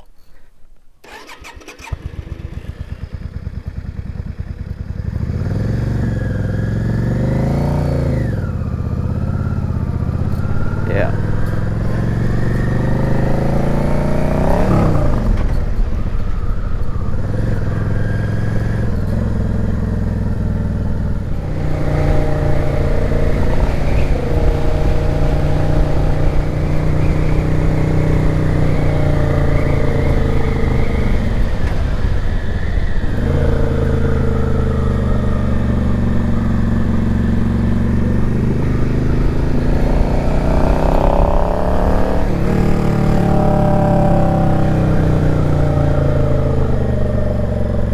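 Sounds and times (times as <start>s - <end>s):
motorcycle engine revving: 1.0s - 47.9s.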